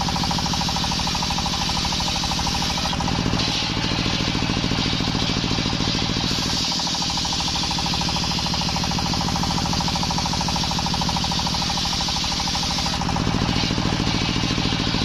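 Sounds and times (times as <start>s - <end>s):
circular saw cutting wood: 0.0s - 15.0s
engine pulsing: 0.0s - 15.0s.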